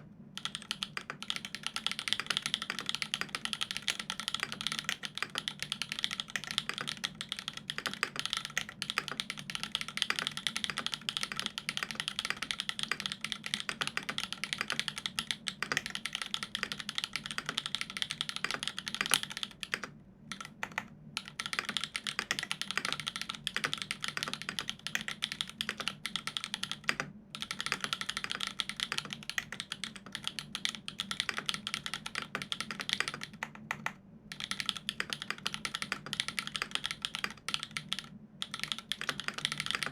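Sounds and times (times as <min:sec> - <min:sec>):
mechanical keyboard typing: 0:00.4 - 0:39.9.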